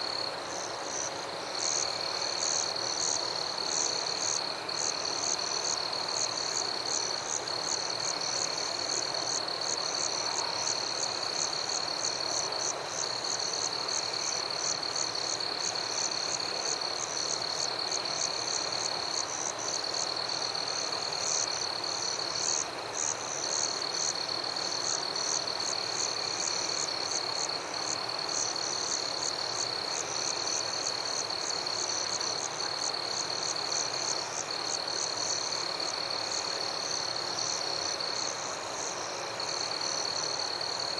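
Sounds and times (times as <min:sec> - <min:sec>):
constant hiss: 0:00.0 - 0:40.9
frogs and insects trilling: 0:00.0 - 0:40.9.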